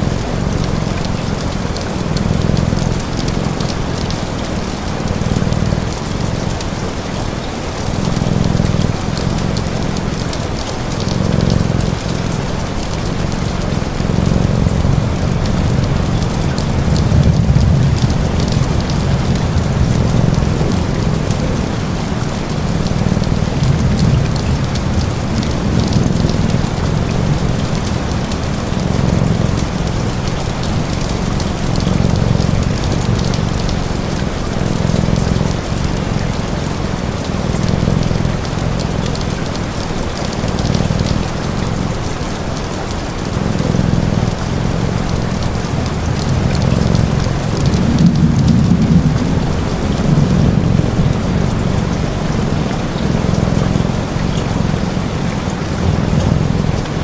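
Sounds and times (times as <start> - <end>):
low purr: 0.0 - 57.0
steady rain falling: 0.0 - 57.0.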